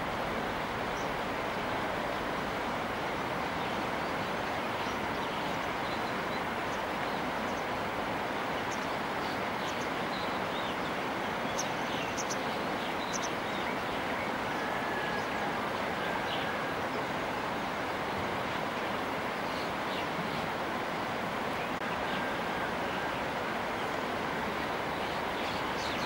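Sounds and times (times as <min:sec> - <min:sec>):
river rapid rushing: 0:00.0 - 0:26.0.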